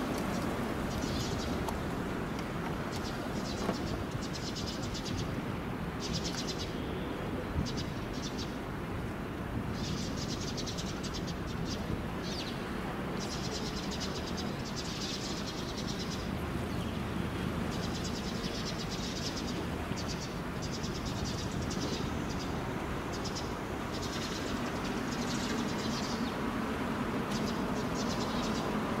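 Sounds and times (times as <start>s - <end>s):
birds chirping in rapid trills: 0.0s - 1.7s, 2.9s - 8.6s, 9.7s - 29.0s.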